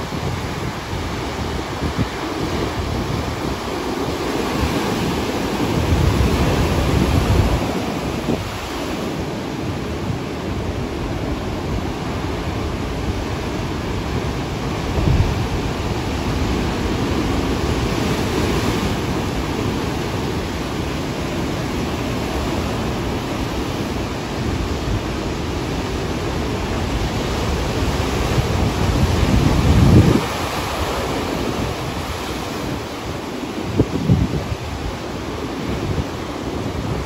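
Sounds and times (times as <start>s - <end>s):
heavy surf breaking on beach: 0.0s - 37.0s.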